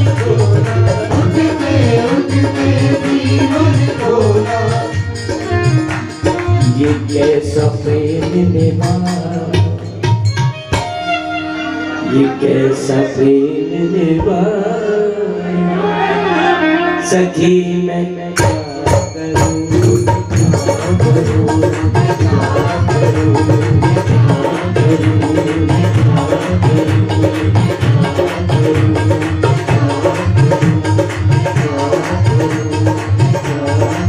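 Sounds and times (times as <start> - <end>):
harmonium chords: 0.0 - 34.0
person singing: 0.0 - 34.0.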